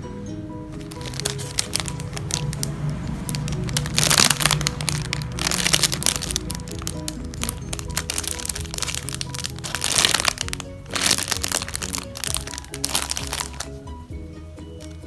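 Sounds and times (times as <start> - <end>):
background music: 0.0 - 15.0
foam toys crinkling when squeezed: 0.8 - 13.8.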